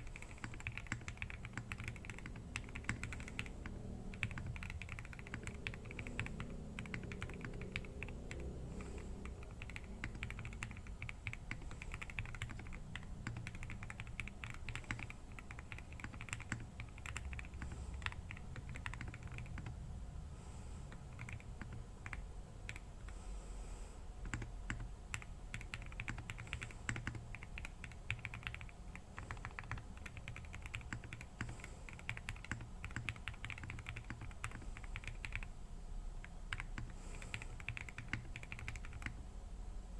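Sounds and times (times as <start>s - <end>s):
mechanical keyboard typing: 0.0s - 19.8s, 20.9s - 23.1s, 24.2s - 35.5s, 36.2s - 39.2s.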